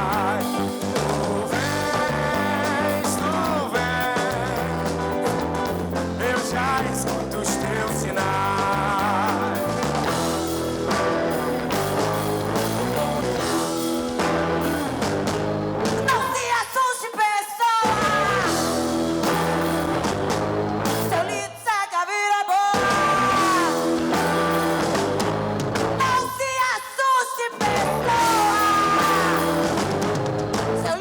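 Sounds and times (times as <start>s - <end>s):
live band music: 0.0s - 16.6s, 17.9s - 21.3s, 22.8s - 26.8s, 27.6s - 31.0s
wavering vocals: 0.0s - 21.7s, 22.6s - 31.0s.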